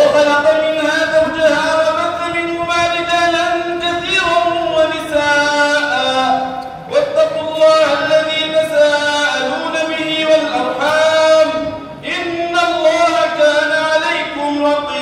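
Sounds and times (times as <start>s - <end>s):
man chanting into a microphone: 0.0s - 15.0s.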